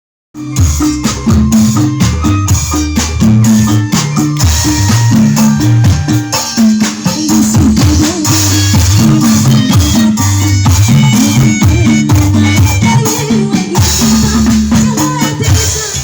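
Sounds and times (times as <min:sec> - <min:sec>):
loud music with heavy bass: 0:00.4 - 0:16.0.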